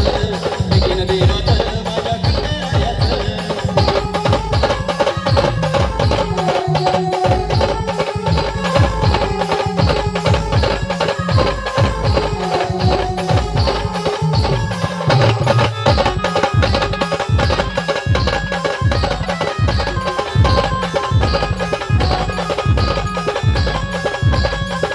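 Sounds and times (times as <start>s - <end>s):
fast drum beat: 0.0s - 24.9s.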